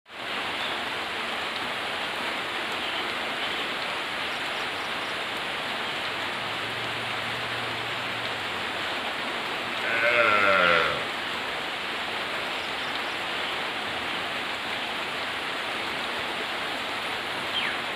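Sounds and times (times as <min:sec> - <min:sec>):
steady rain falling: 0:00.1 - 0:17.9.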